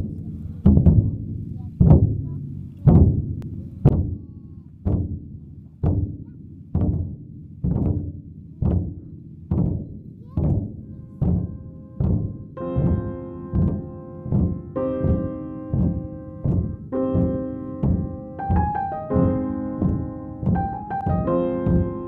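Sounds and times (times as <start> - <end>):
faint held musical tones: 0.0 - 22.0
frame drum strokes: 0.0 - 22.0.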